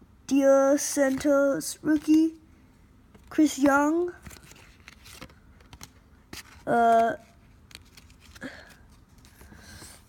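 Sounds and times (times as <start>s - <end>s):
cards being flipped through: 0.8s - 2.4s, 3.1s - 10.0s.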